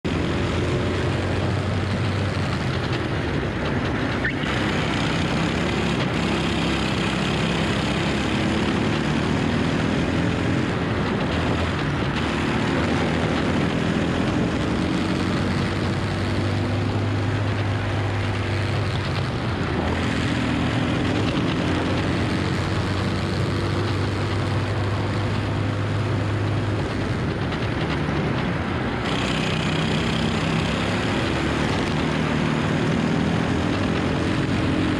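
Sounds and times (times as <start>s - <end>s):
steady rush of noise: 0.0s - 34.9s
kart engine revving: 0.1s - 34.9s.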